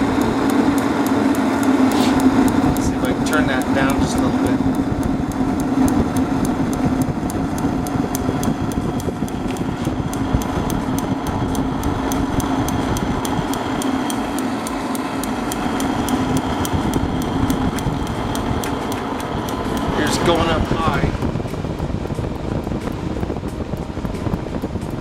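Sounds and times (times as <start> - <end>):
heater fan and burner rumbling: 0.0 - 25.0
igniter clicking rapidly: 0.0 - 25.0.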